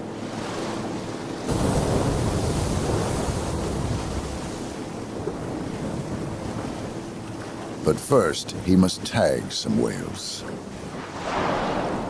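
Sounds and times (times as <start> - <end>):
waves rushing: 0.0 - 12.0.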